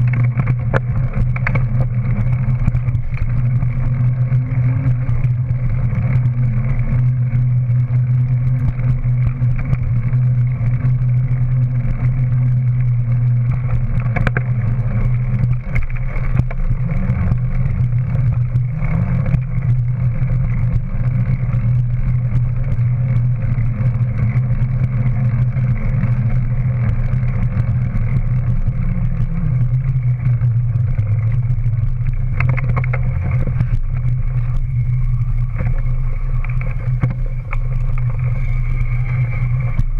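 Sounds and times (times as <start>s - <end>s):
bike tyres on pavement: 0.0s - 39.9s
wind rumble: 0.0s - 39.9s.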